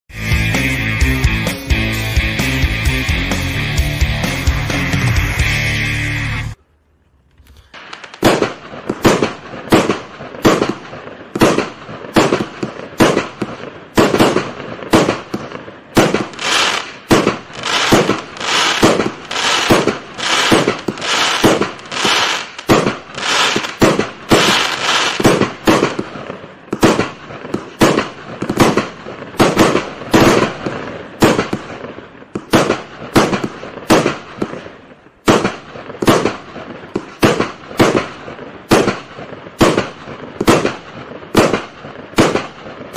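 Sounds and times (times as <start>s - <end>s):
fireworks cake firing shots: 7.6s - 42.9s.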